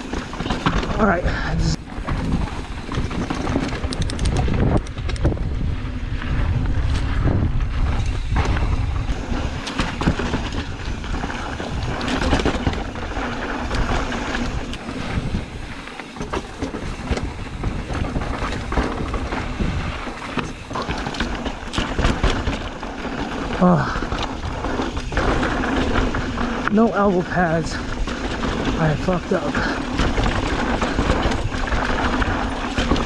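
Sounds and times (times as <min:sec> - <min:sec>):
bike clicks and knocks: 0:00.0 - 0:15.0, 0:15.6 - 0:33.0
bike tyres rolling over dirt: 0:00.0 - 0:33.0
wind rumbling on microphone: 0:00.0 - 0:33.0.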